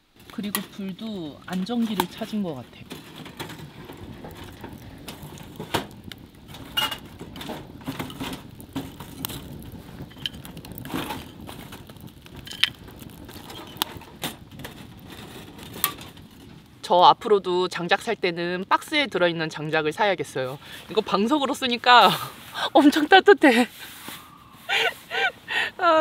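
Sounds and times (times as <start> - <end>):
wood fire crackling and popping: 0.0 - 25.7.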